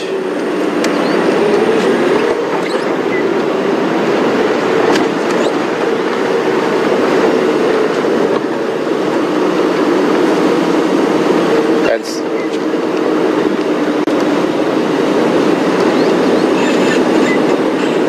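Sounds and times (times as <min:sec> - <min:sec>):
vehicle engine over rough ground: 0:00.0 - 0:18.0.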